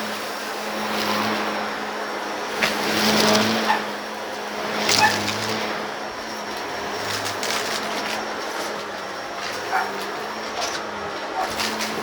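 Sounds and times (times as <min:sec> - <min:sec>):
debris crackling in vacuum: 0:00.0 - 0:12.0
vacuum cleaner running: 0:00.0 - 0:12.0.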